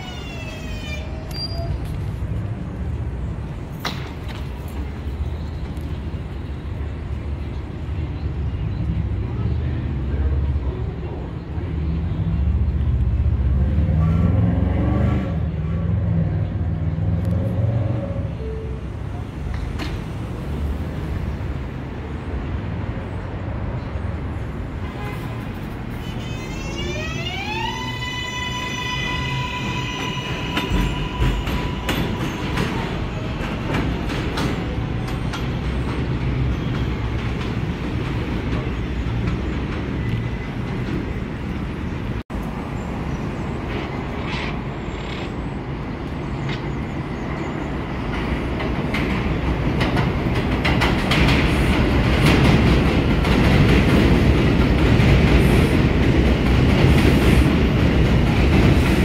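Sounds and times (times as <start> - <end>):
subway train arriving: 0.0 - 59.0
train wheels rumbling on track: 0.0 - 59.0.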